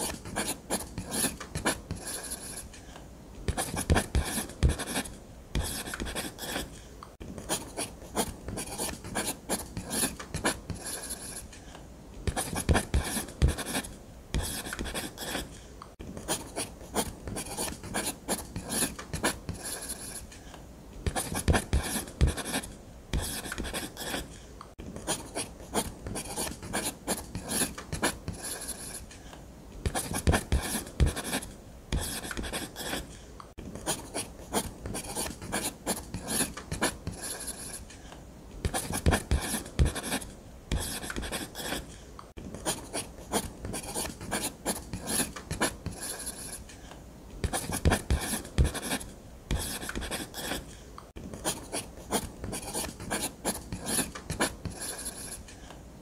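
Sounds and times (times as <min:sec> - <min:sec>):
pen scratching on paper: 0:00.0 - 0:02.8, 0:03.5 - 0:06.8, 0:07.4 - 0:11.6, 0:12.2 - 0:15.6, 0:16.2 - 0:20.3, 0:21.0 - 0:24.4, 0:25.0 - 0:29.1, 0:29.8 - 0:33.2, 0:33.8 - 0:37.9, 0:38.6 - 0:42.0, 0:42.6 - 0:46.7, 0:47.4 - 0:55.5.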